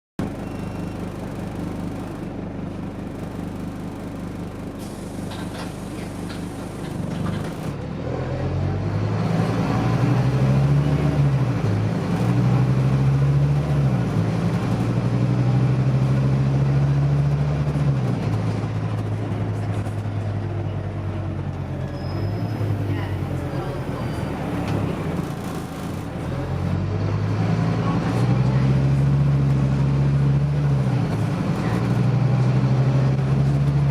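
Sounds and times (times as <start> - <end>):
bus diesel engine: 0.2 - 33.9.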